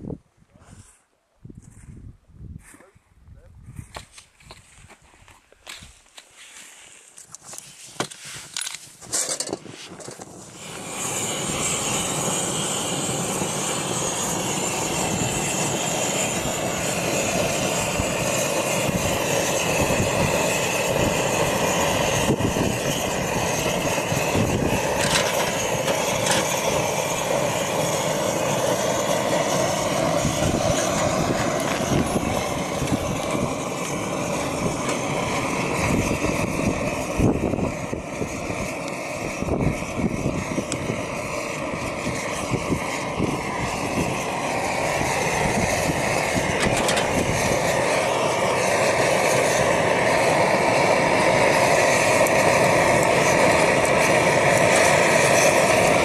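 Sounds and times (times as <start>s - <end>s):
stove burner rushing burn: 6.4s - 56.0s.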